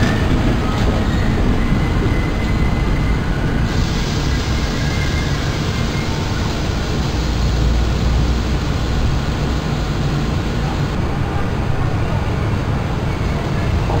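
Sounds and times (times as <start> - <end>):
passenger train rumble and hiss: 0.0 - 14.0.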